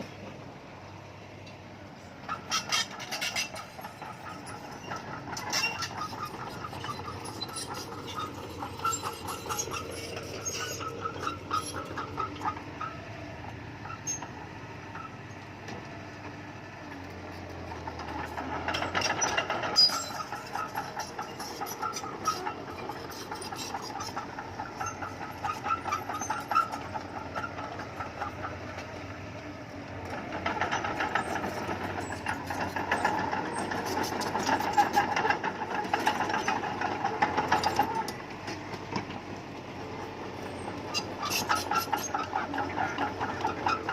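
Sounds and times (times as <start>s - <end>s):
diesel engine running: 0.0s - 43.9s
metallic clatter and clanking: 2.2s - 15.1s, 17.7s - 29.1s, 30.0s - 39.3s, 40.0s - 43.9s.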